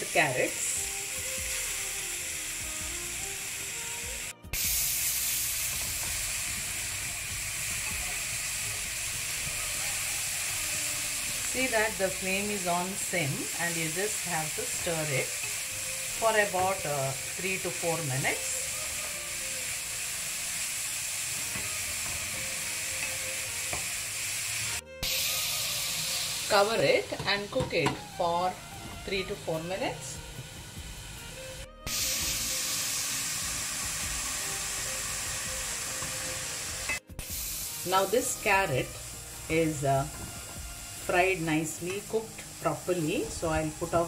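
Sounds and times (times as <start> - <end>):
carrots sizzling in a pan: 0.0 - 44.0.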